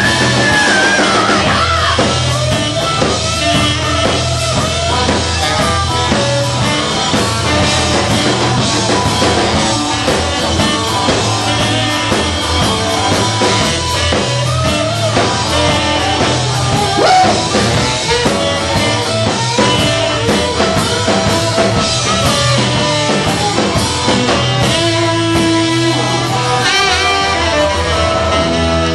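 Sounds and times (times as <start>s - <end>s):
drum kit: 0.0s - 28.9s
electric guitar: 0.0s - 28.9s
live rock band playing: 0.0s - 28.9s
saxophone: 0.0s - 28.9s.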